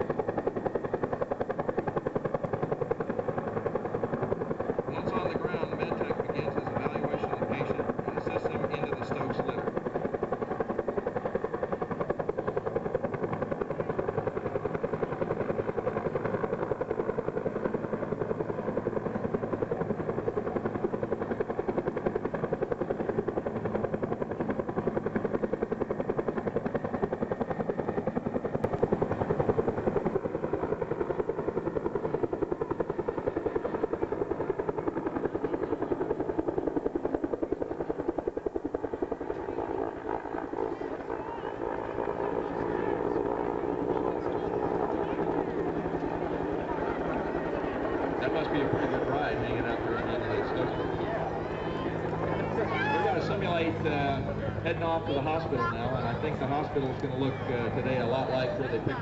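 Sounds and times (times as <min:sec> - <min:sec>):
helicopter rotor beating: 0:00.0 - 0:59.0.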